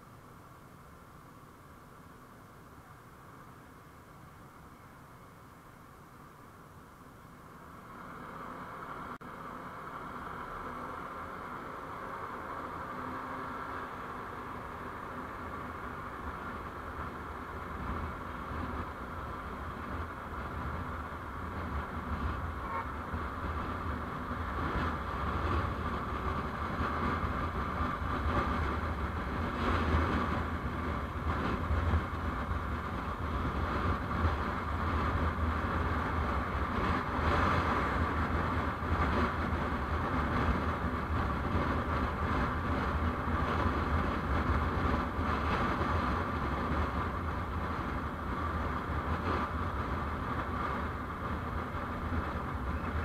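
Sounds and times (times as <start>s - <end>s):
vehicle driving rumble: 0.0s - 53.0s.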